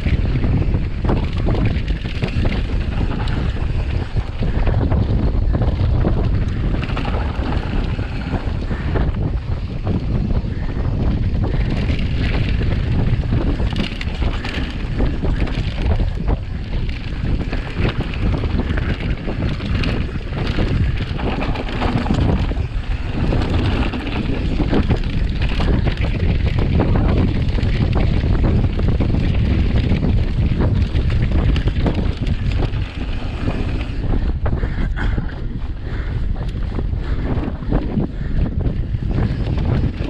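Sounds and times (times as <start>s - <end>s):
bike rattling over bumps: 0.0s - 40.0s
wind buffeting microphone: 0.0s - 40.0s.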